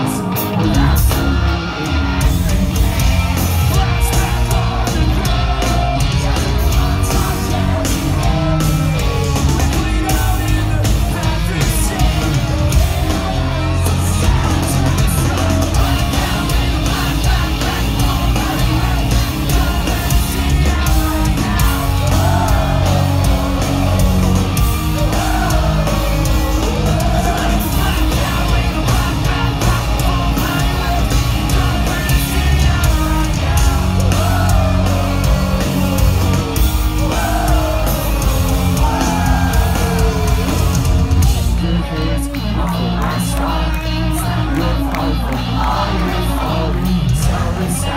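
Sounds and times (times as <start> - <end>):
pop-punk band playing live: 0.0 - 47.9.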